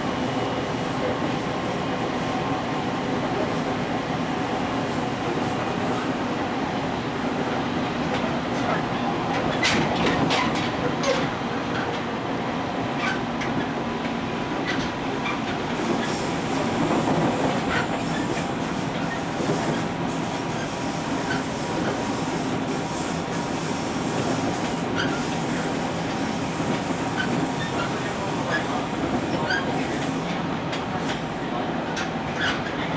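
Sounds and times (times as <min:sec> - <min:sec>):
electric train running rumble: 0:00.0 - 0:32.9.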